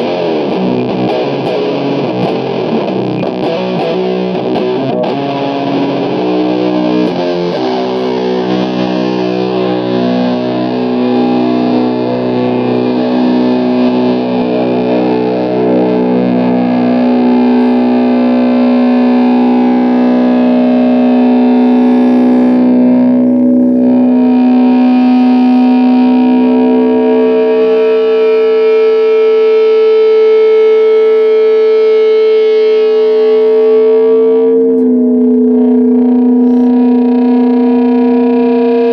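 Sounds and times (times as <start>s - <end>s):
distorted electric guitar chord: 0.0s - 38.9s
high sustained guitar note: 0.0s - 38.9s.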